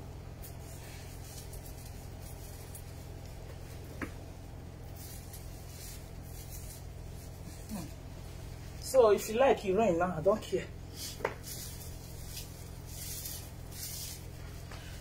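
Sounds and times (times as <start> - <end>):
steady low hum: 0.0 - 15.0
plant leaves rustling and crackling: 0.4 - 9.8, 10.9 - 15.0.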